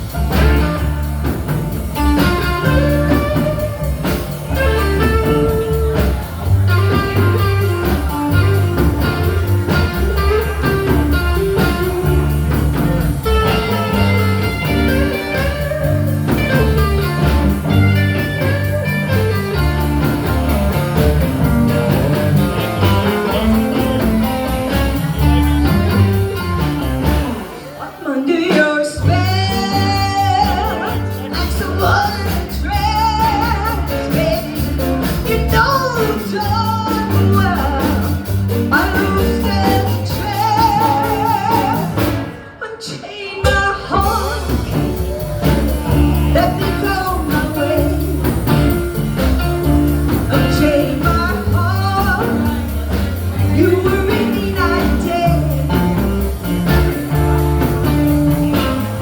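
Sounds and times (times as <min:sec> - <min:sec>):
bass guitar: 0:00.0 - 0:42.6, 0:43.5 - 0:59.0
blues band playing: 0:00.0 - 0:59.0
drums: 0:00.0 - 0:59.0.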